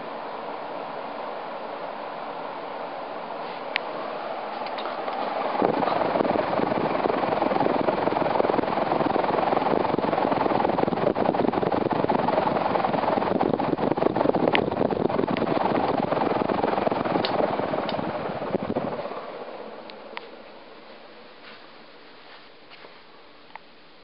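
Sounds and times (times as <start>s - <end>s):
ceiling fan rushing air: 0.0s - 24.0s.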